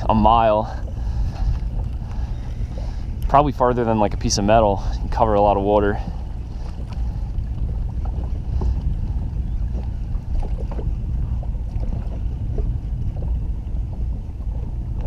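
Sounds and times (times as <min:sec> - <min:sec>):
water around boat: 0:00.0 - 0:15.0
wind: 0:00.0 - 0:15.0.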